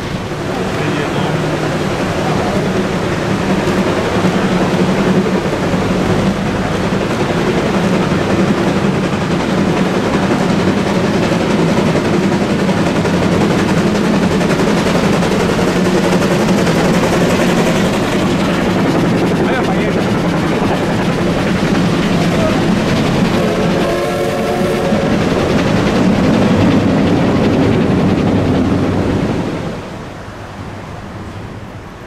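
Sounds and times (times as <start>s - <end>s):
steady low drone: 0.0s - 30.1s
steam locomotive chuffing: 0.0s - 31.0s.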